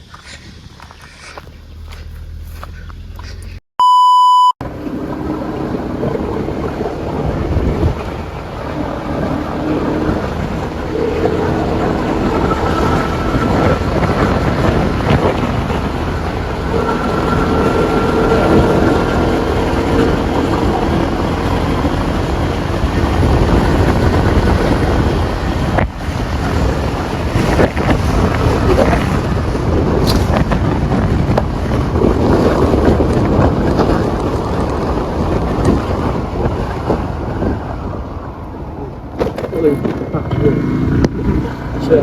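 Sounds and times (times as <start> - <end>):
wind buffeting microphone: 0.0 - 3.6, 4.7 - 42.0.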